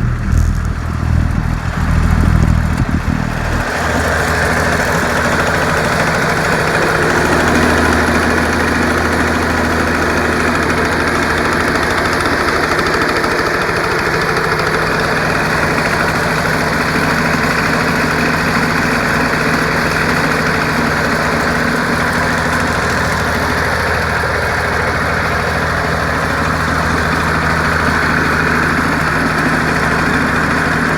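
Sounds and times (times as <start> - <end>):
two-stroke engine running: 0.0 - 30.9.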